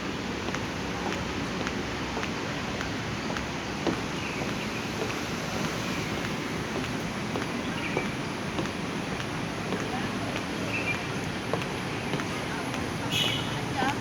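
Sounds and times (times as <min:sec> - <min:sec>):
footsteps walking: 0:00.0 - 0:14.0
road traffic hum: 0:00.0 - 0:14.0.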